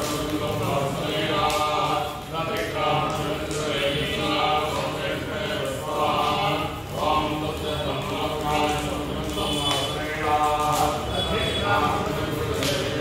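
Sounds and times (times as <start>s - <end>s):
mantras chanted: 0.0s - 13.0s.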